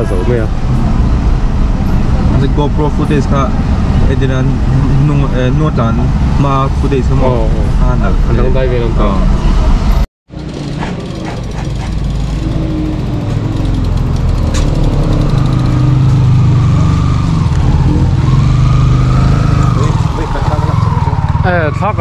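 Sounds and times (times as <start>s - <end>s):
road noise: 0.0s - 22.0s
vehicle engine rumbling: 0.0s - 22.0s.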